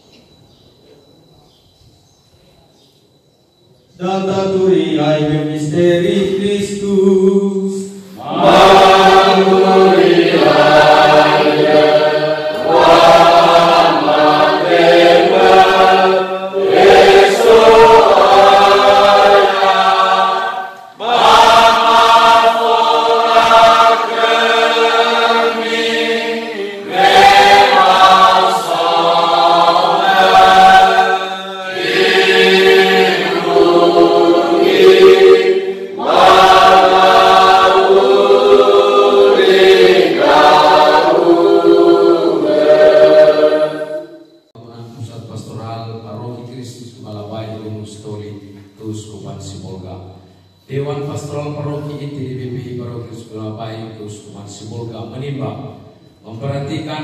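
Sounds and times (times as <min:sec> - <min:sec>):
choir singing liturgical song: 0:04.0 - 0:57.0.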